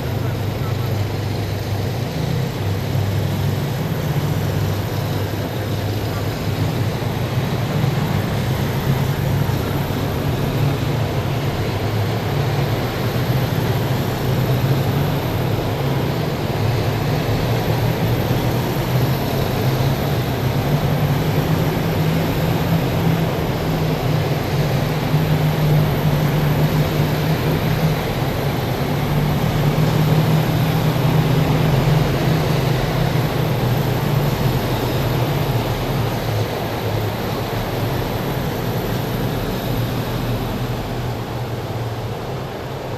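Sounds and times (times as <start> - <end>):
heavy vehicles engine drone: 0.0 - 42.9
road rumble: 0.0 - 42.9.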